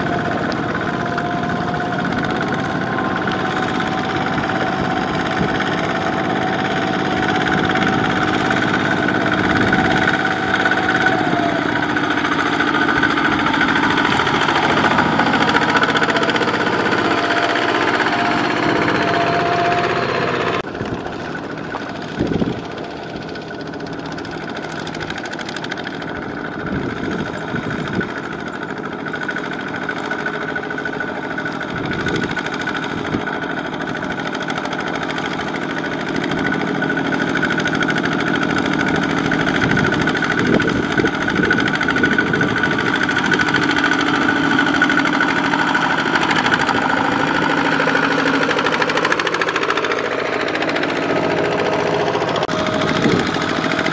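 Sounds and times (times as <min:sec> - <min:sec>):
walking tractor diesel engines: 0:00.0 - 0:53.9.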